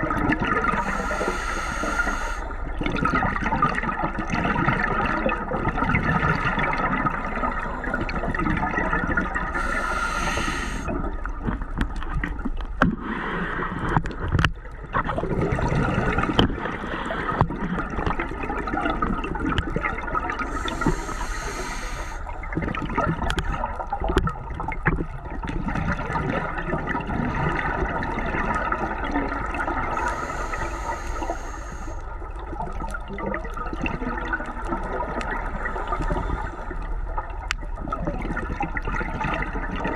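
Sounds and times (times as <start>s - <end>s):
scuba exhalation bubbles: 0.0s - 31.4s, 32.4s - 39.9s.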